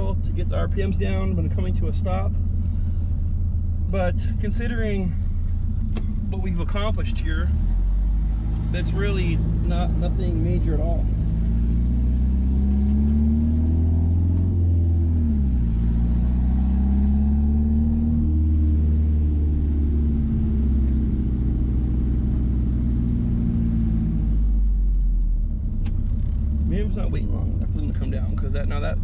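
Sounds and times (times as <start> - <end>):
pickup truck engine accelerating: 0.0 - 29.0.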